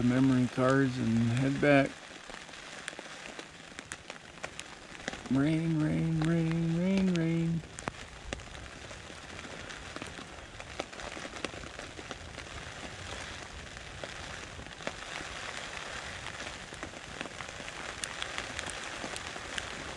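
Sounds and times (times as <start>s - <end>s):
rain on fabric roof: 0.0s - 19.9s.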